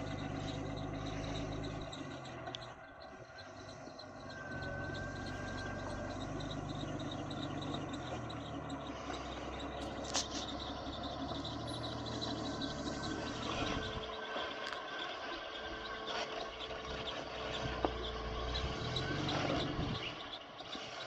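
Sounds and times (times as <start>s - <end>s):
car engine at low revs: 0.0s - 21.0s
high squeal: 0.0s - 21.0s.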